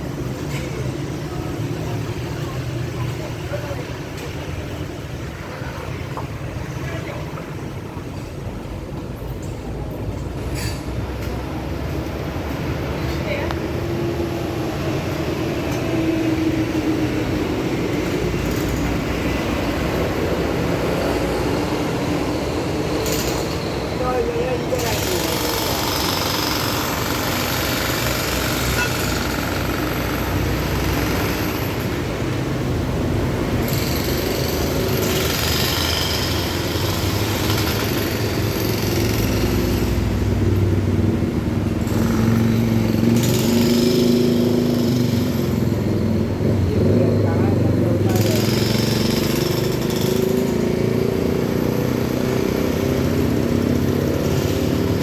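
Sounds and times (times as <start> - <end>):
heavy engine rumbling: 0.0 - 55.0.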